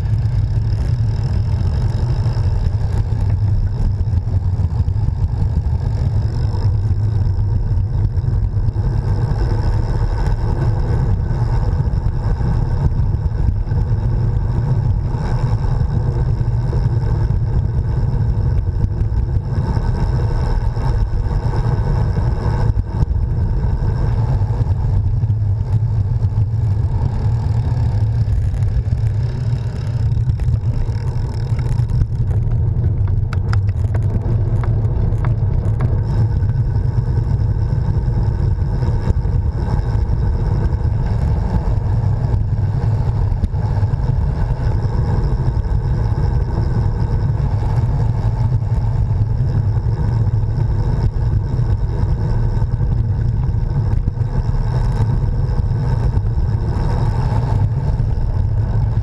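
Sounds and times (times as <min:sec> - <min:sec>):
bicycle tyres rolling on tarmac: 0:00.0 - 0:59.0
wind buffeting camera: 0:00.0 - 0:59.0.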